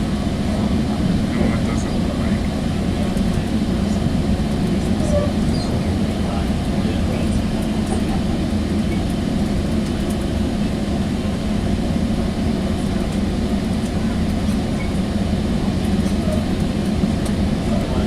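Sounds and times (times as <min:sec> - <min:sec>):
train rumbling from inside coach: 0:00.0 - 0:18.0.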